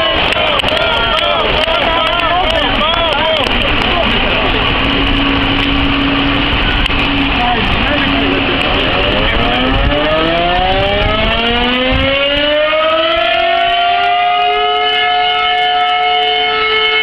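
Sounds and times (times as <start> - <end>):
fire siren winding up: 0.0 - 17.0.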